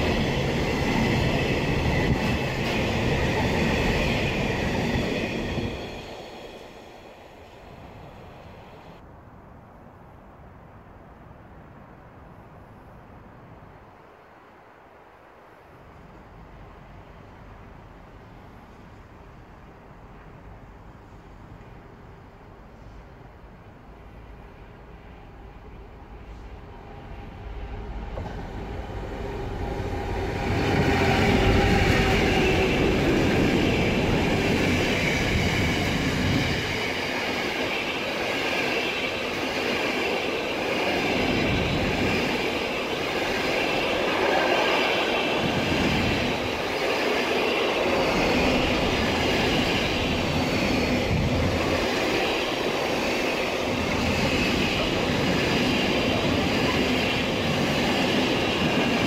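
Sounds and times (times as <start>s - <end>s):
freight train passing: 0.0s - 9.1s, 15.3s - 59.0s.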